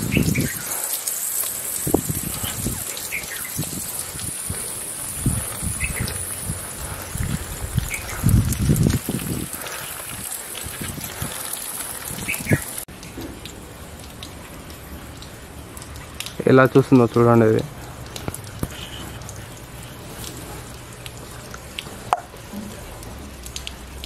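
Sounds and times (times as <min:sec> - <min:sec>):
water splashing onto rocks: 0:00.0 - 0:24.0.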